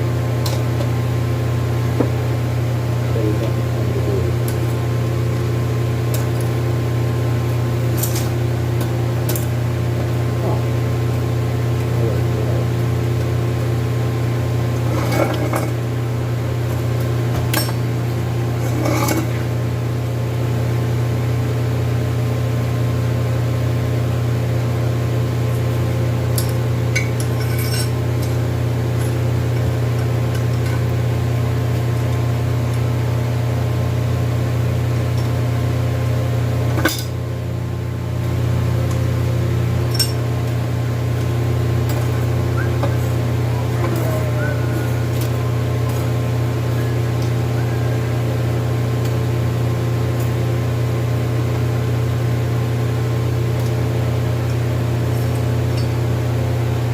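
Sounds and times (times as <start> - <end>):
electrical machine hum: 0.0 - 56.9.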